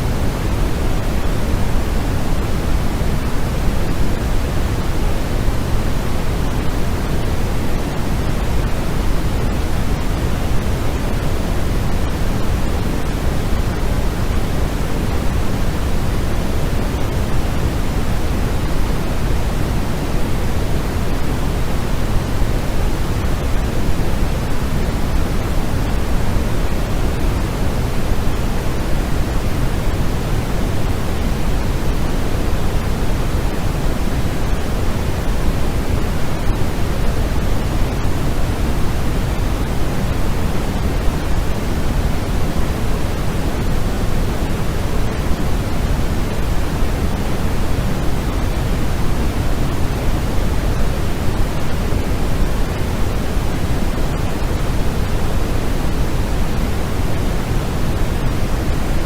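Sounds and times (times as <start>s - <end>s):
deep steady white noise: 0.0s - 59.0s.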